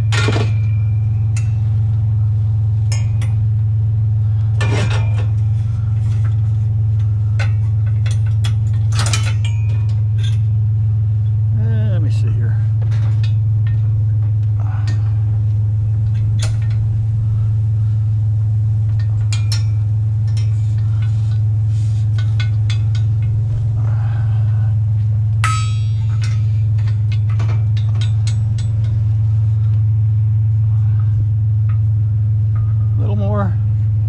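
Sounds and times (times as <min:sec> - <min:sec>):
clinks and rattles: 0:00.0 - 0:02.0, 0:02.8 - 0:03.6, 0:04.4 - 0:11.4, 0:12.0 - 0:30.0
truck engine and road drone: 0:00.0 - 0:34.0.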